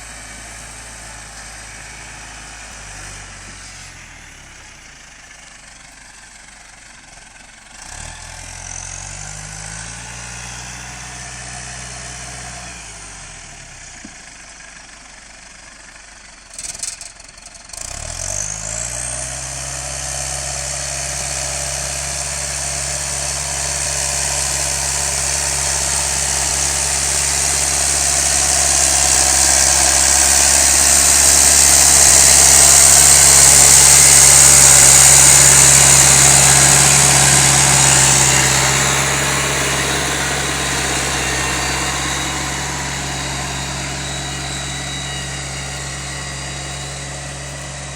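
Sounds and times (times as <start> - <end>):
tractor diesel engine revving: 0.0 - 47.9.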